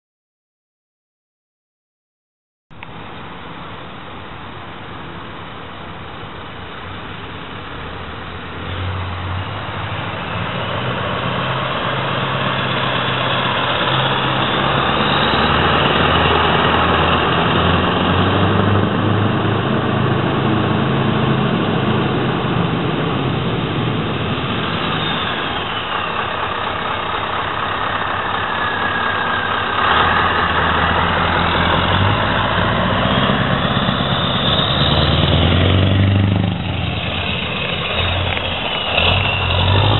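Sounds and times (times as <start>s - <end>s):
truck engine driving past: 7.5s - 39.9s.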